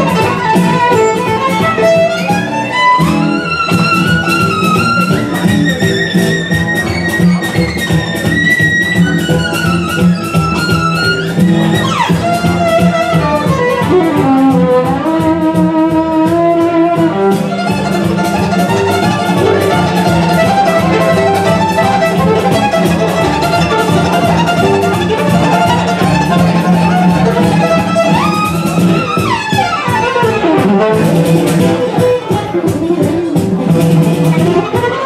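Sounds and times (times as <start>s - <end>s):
fast solo violin tune: 0.0s - 35.0s.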